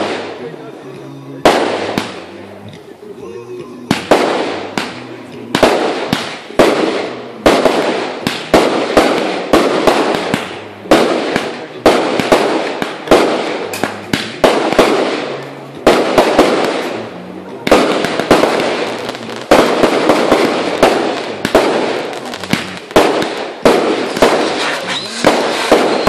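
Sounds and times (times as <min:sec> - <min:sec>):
fireworks bangs: 0:00.0 - 0:02.9, 0:03.8 - 0:26.0.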